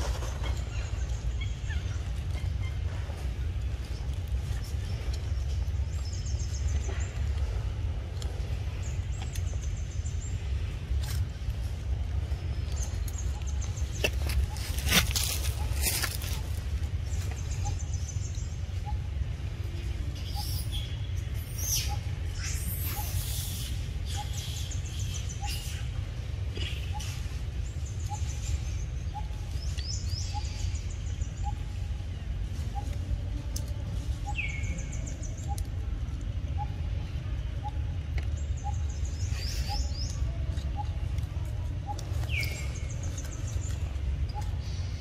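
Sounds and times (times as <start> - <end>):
birds chirping and calling: 0.0 - 45.0
steady low rumble: 0.0 - 45.0.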